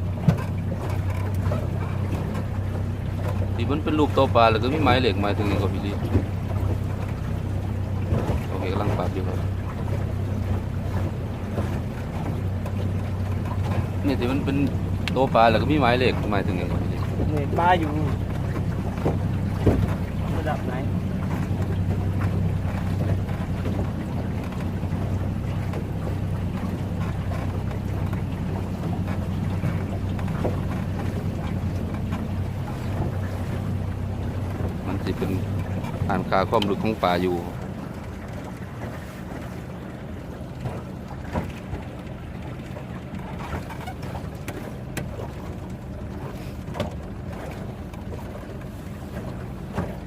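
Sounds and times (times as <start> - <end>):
boat engine humming: 0.0 - 50.0
water noise: 0.0 - 50.0
wind buffeting microphone: 0.0 - 50.0.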